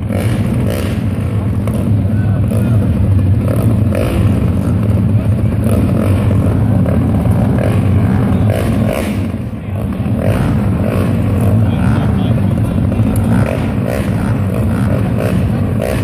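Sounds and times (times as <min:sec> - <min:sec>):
pit bike engines running: 0:00.0 - 0:16.0.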